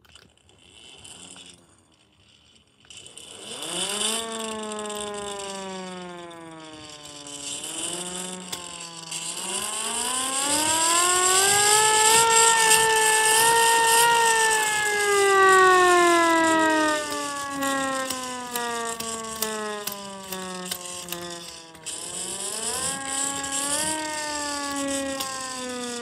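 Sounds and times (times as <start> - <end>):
rotor whirring rattle: 0.0 - 26.0
hand-cranked siren wailing: 2.8 - 26.0.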